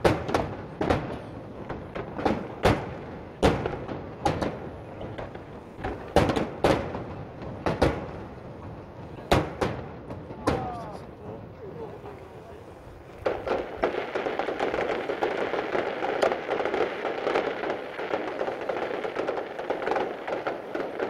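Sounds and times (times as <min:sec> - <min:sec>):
firework shells bursting: 0:00.0 - 0:11.2, 0:13.2 - 0:21.0.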